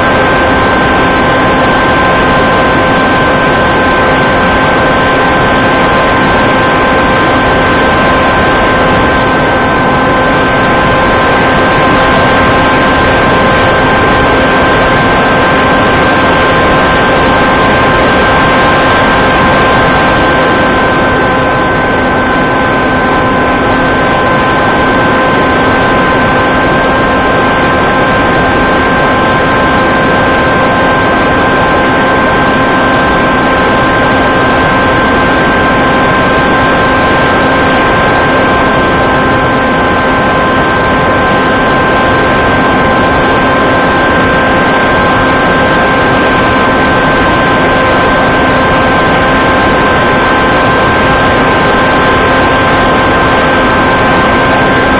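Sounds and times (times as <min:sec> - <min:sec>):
small aircraft engine and propeller: 0:00.0 - 0:54.9.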